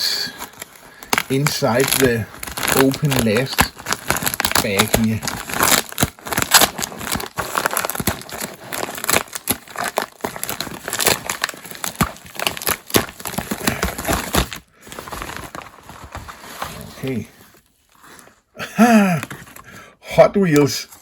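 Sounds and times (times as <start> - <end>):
bag crinkling and rustling: 0.0 - 19.7.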